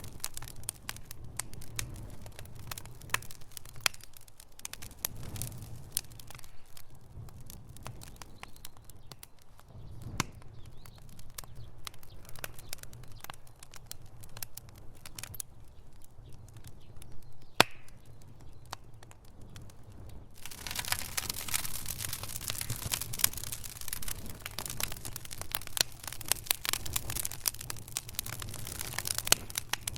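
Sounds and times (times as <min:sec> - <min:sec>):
fire crackling and popping: 0:00.0 - 0:29.9
fire low rumble: 0:00.0 - 0:29.9.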